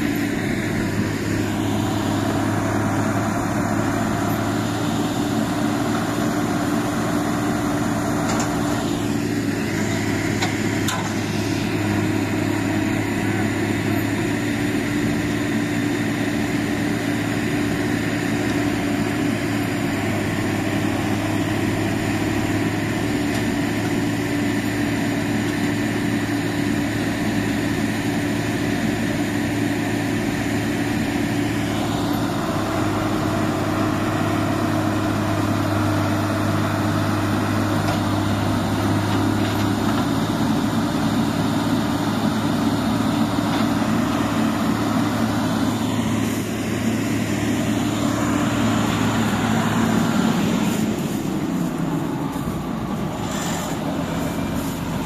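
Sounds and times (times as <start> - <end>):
hissing machine noise: 0.0 - 27.8, 29.3 - 55.0
diesel engine drone: 0.0 - 55.0.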